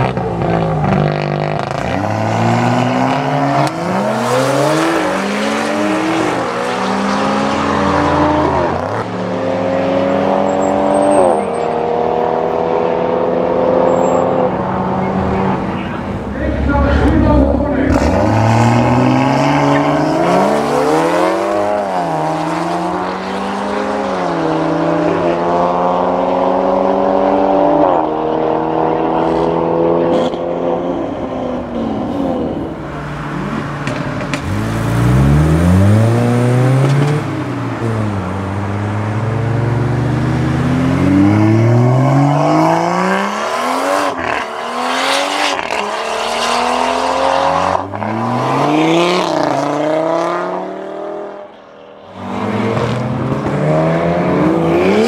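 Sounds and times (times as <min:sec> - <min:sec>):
car engine accelerating hard: 0:00.0 - 0:51.5.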